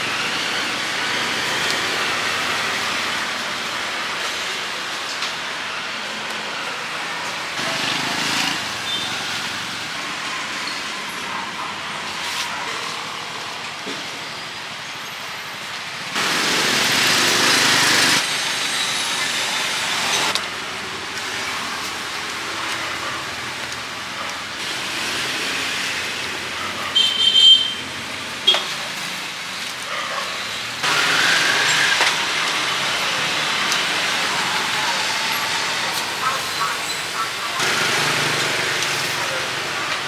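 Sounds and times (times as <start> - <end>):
street traffic hiss: 0.0 - 40.0.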